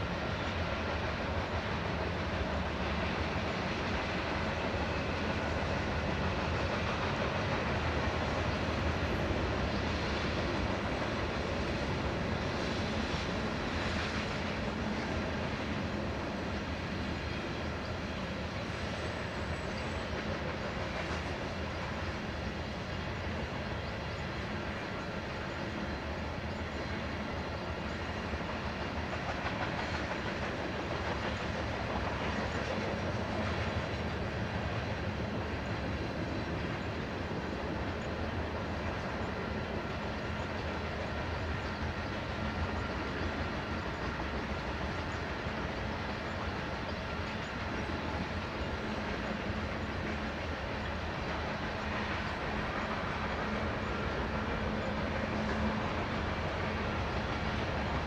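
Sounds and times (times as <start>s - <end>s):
train wheels rolling on track: 0.0s - 58.0s.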